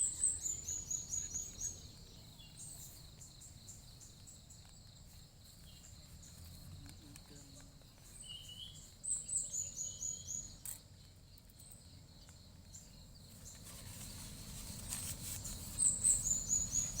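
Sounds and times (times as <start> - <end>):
low outdoor background: 0.0 - 17.0.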